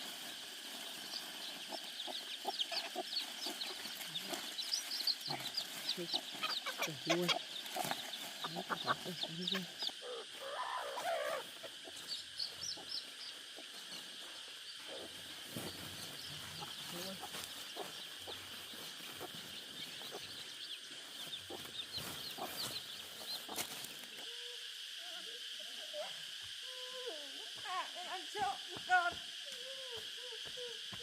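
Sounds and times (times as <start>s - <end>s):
chickens clucking and peeping: 0.0s - 24.9s.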